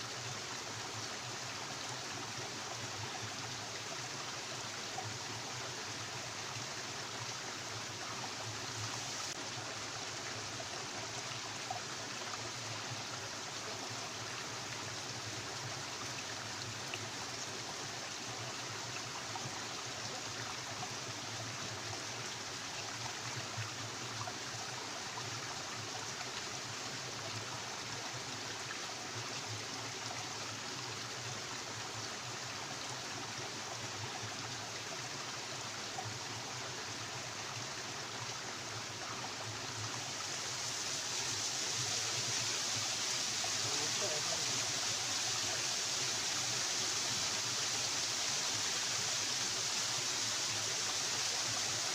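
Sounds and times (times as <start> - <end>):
stream water running: 0.0 - 51.9.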